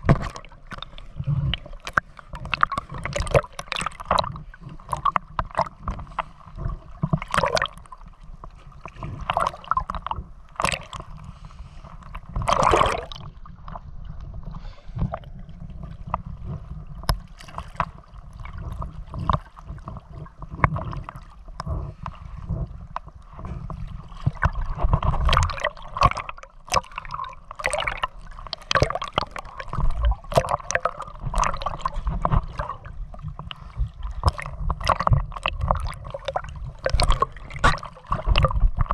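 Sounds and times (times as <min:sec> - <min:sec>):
low rumble of water: 0:00.0 - 0:38.9
water splashing while swimming: 0:00.0 - 0:38.9.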